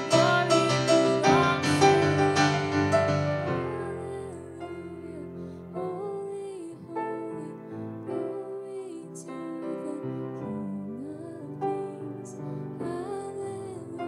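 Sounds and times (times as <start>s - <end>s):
piano on a keyboard: 0.0s - 14.0s
woman singing into a microphone: 0.0s - 14.0s.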